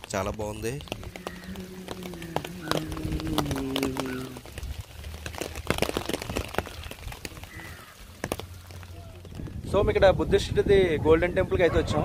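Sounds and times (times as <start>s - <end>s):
raindrops tapping: 0.0s - 10.7s.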